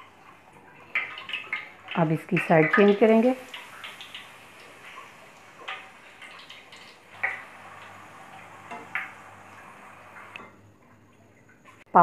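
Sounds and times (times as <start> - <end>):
pastry frying in hot oil: 0.0 - 12.0.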